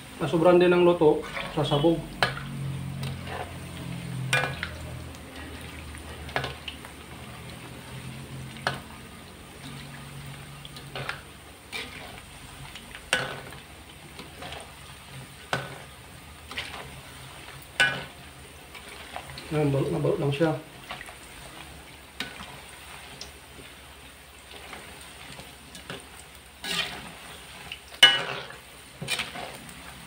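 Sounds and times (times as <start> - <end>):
eggs deep-frying in hot oil: 0.0 - 30.0.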